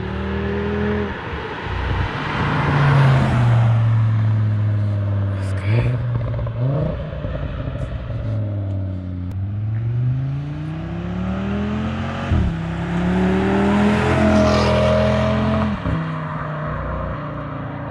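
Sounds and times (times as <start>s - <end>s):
car engine accelerating: 0.0s - 17.9s.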